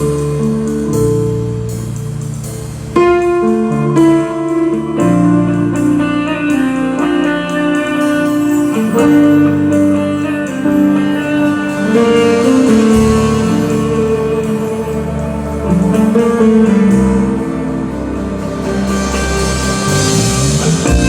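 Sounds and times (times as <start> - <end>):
band playing instrumental: 0.0 - 21.0
guitar gliding melody: 0.0 - 21.0.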